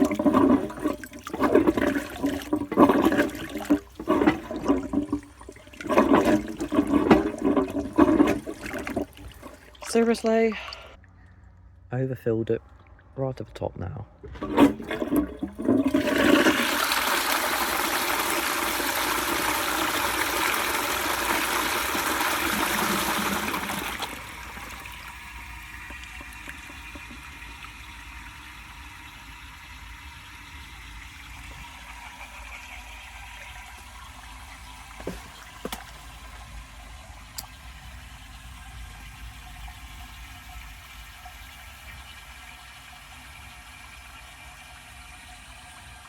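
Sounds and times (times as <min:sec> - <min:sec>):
toilet cistern flushing water rush: 0:00.0 - 0:11.0, 0:14.2 - 0:46.0.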